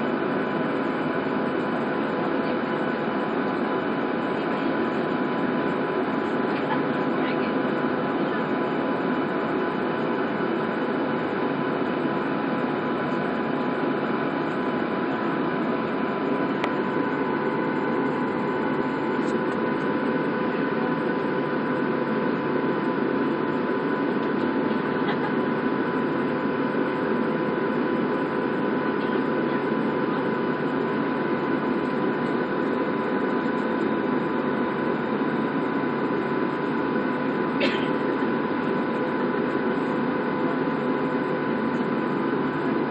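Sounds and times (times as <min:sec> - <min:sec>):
jet engines droning with whine: 0:00.0 - 0:42.9.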